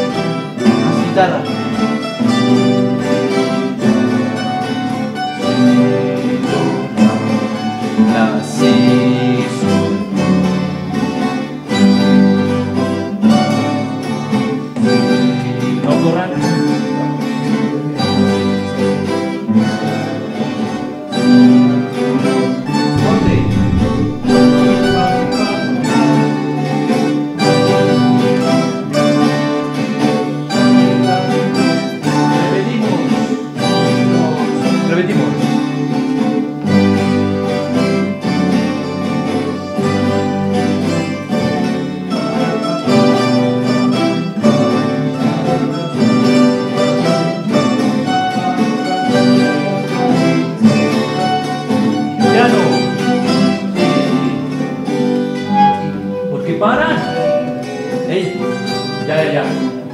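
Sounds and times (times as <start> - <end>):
guitars and bandolas playing: 0.0 - 59.9.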